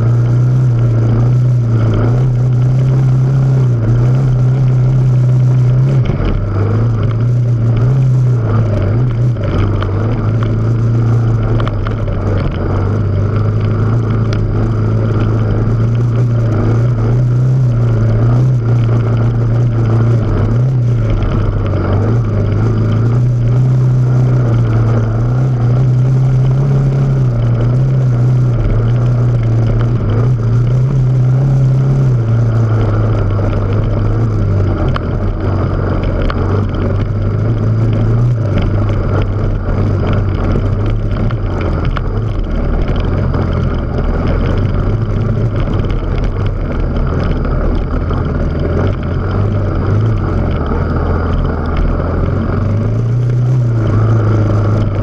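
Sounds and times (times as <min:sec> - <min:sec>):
motorcycle engine droning: 0:00.0 - 0:55.0
wind: 0:00.0 - 0:55.0.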